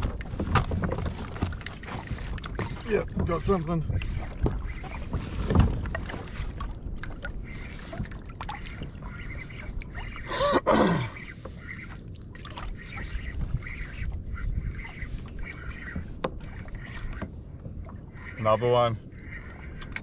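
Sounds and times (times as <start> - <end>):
water splashes: 0.0 - 20.0.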